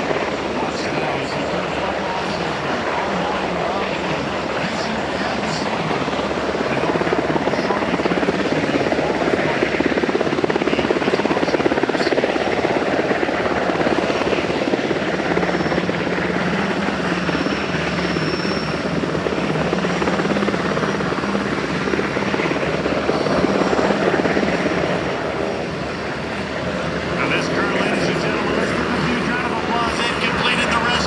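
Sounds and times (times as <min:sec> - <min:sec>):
helicopter rotor chopping: 0:00.0 - 0:31.0.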